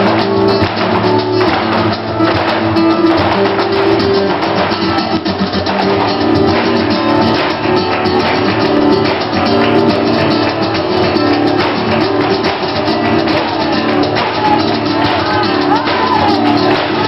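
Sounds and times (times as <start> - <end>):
cajon drumming: 0.0 - 17.0
flamenco acoustic guitar: 0.0 - 17.0
hand-clapping: 0.0 - 17.0.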